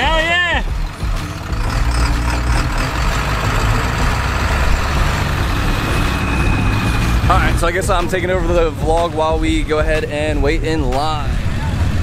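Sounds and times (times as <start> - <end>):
pickup engine rumble: 0.0 - 12.0
road noise: 0.0 - 12.0.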